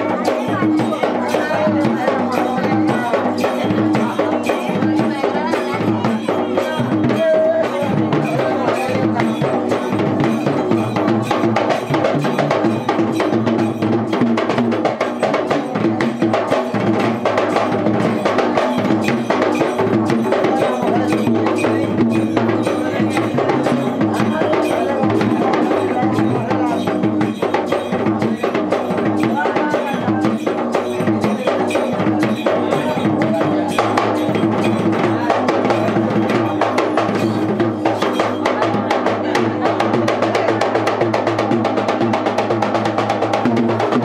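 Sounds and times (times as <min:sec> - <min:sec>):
fast double-headed drumming: 0:00.0 - 0:44.0.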